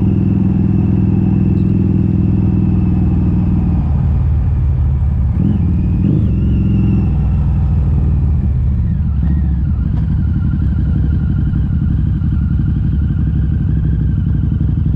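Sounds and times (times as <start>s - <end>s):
loud motorcycle engine revving: 0.0s - 4.5s, 5.3s - 14.9s.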